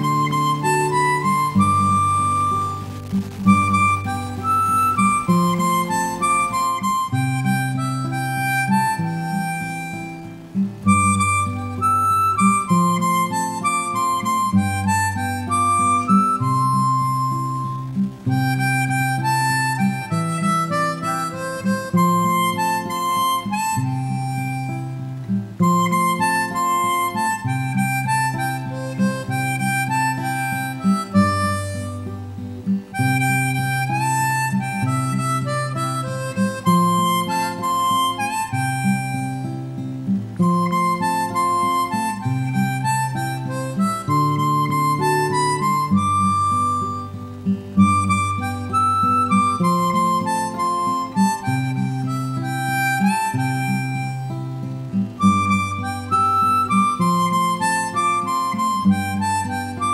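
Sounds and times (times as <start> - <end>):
acoustic guitar: 0.0 - 59.9
harmonica melody: 0.0 - 59.9.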